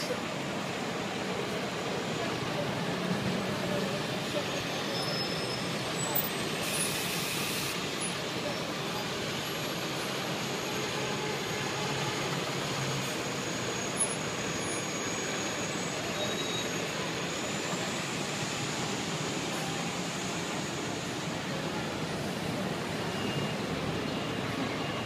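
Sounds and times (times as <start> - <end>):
bus engines running: 0.0 - 25.0.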